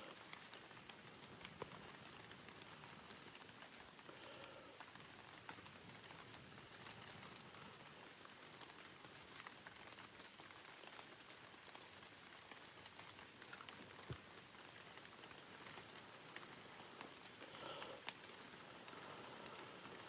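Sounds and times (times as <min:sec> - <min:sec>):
faint steady rain: 0:00.0 - 0:20.0
raindrops ticking: 0:00.0 - 0:20.0.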